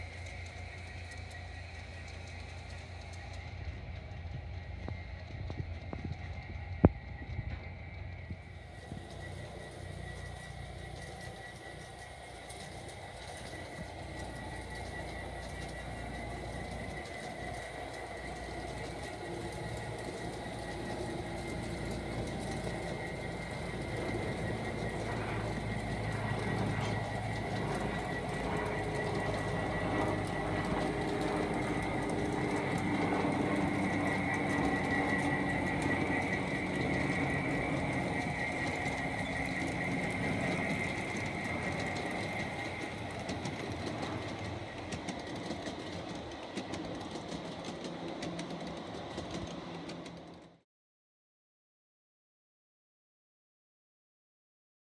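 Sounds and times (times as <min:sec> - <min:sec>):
model train motors whirring: 0:00.0 - 0:50.6
steady high whine: 0:00.0 - 0:50.6
wheels rolling on rails: 0:00.0 - 0:50.6.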